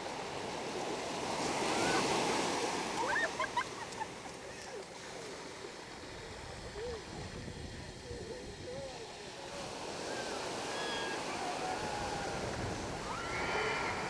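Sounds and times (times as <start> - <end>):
small surf washing on sand: 0.0 - 14.0.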